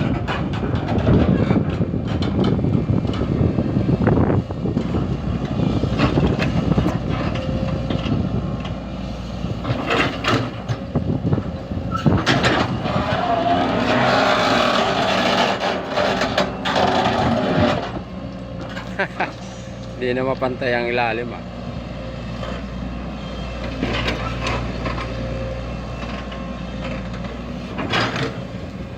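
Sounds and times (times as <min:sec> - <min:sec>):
excavator engine drone: 0:00.0 - 0:28.9.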